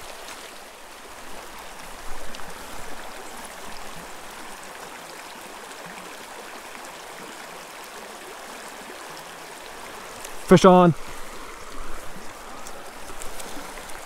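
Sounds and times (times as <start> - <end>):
creek running over rocks: 0.0 - 14.0.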